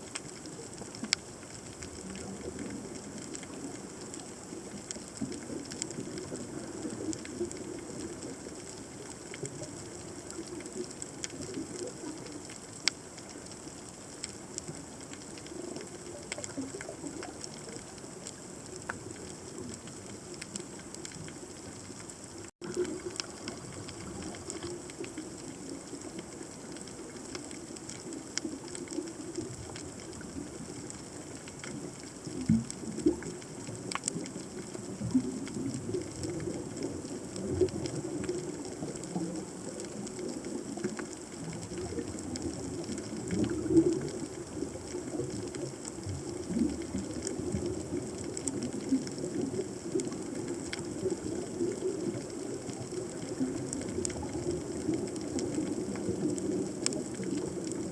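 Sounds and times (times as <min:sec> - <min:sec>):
faint clicks: 0:00.0 - 0:57.9
underwater water rumble: 0:00.0 - 0:57.9.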